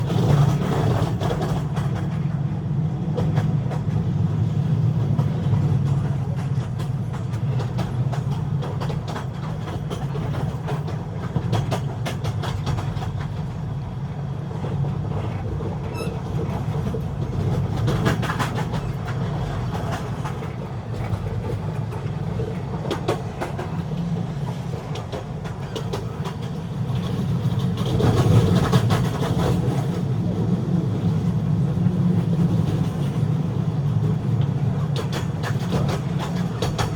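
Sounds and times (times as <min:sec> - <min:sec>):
train wheel clicks: 0:00.0 - 0:02.5, 0:03.1 - 0:36.9
train wheels rumbling on rails: 0:00.0 - 0:36.9.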